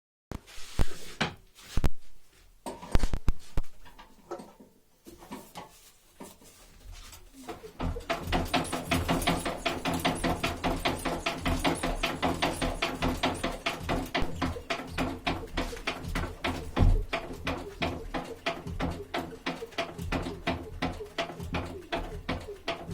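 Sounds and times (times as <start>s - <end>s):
scattered clicks and thumps: 2.7s - 6.5s, 7.1s - 22.9s.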